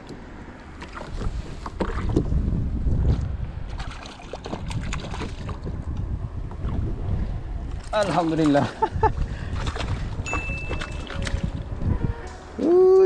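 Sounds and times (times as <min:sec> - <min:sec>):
water sloshing around a kayak: 0:00.0 - 0:11.8
wind rumbling on microphone: 0:00.0 - 0:13.0.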